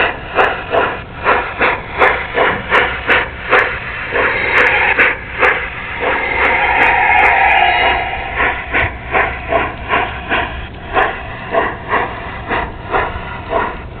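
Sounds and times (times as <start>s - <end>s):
hiss: 0.0s - 13.8s
model train wheels clicking: 0.0s - 14.0s.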